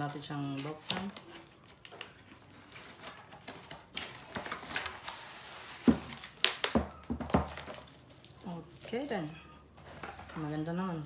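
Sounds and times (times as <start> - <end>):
rustling and clicking packaging: 0.0 - 11.0.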